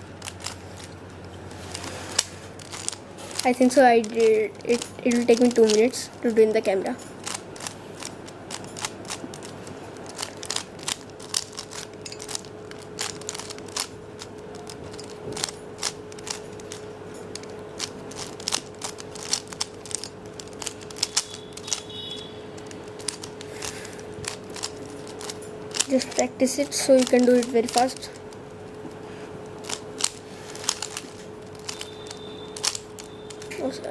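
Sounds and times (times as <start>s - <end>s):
faint hum: 0.0s - 33.9s
puzzle cube clicking: 0.1s - 28.2s, 29.5s - 33.8s.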